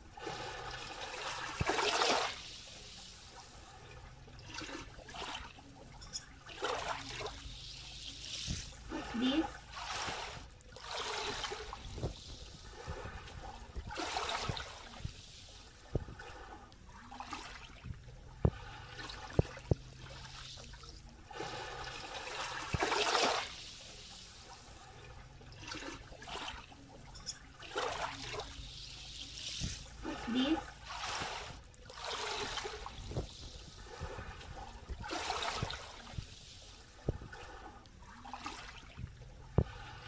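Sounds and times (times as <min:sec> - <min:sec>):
small waves washing over sand: 0:00.0 - 0:40.0.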